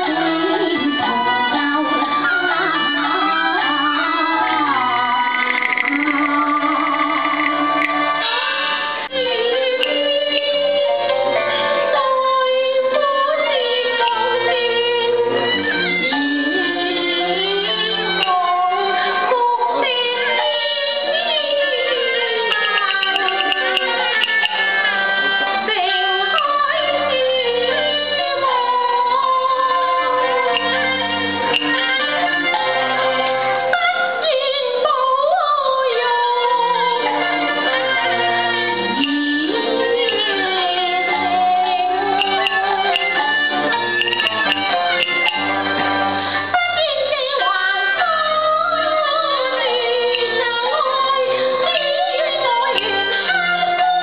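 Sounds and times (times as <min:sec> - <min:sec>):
woman singing opera: 0:00.0 - 0:38.1, 0:38.8 - 0:43.7, 0:46.3 - 0:54.0
instrumental accompaniment: 0:00.0 - 0:54.0.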